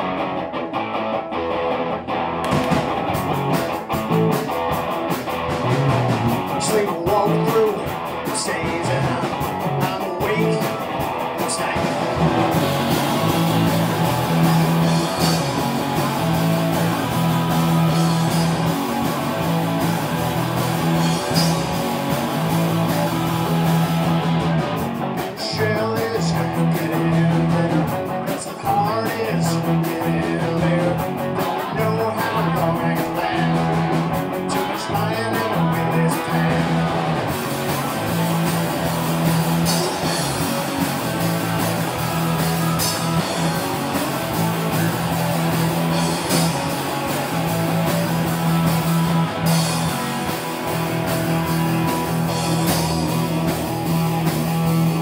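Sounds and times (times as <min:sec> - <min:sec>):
electric guitar: 0:00.0 - 0:55.0
live rock band playing: 0:00.0 - 0:55.0.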